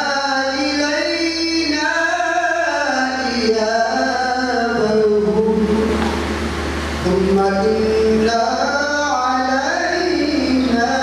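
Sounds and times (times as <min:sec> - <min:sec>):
man chanting into a microphone: 0:00.0 - 0:06.1, 0:07.0 - 0:11.0.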